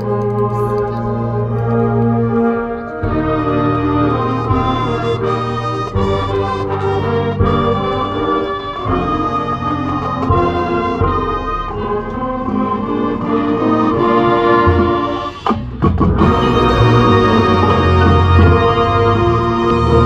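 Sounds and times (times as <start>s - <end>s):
brass chords: 0.0s - 20.0s
marching band playing: 0.0s - 20.0s
drums: 3.1s - 20.0s.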